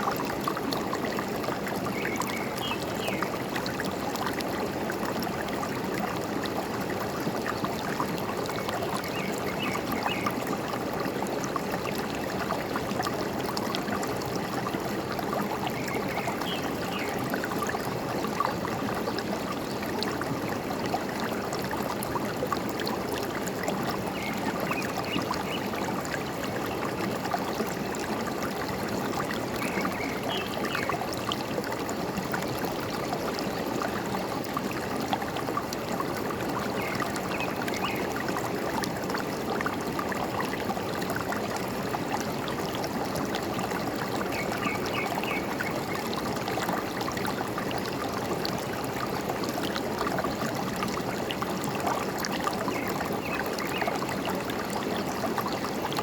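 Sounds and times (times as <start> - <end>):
stream flowing and gurgling: 0.0 - 56.0.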